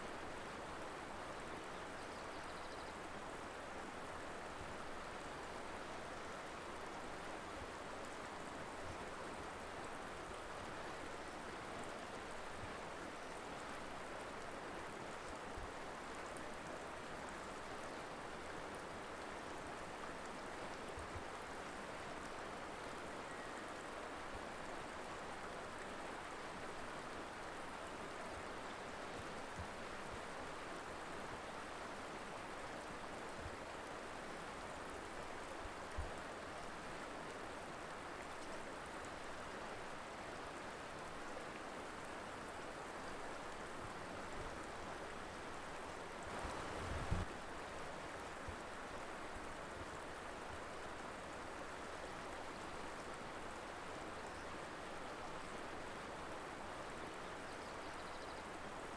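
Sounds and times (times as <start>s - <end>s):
river flowing: 3.0s - 57.8s.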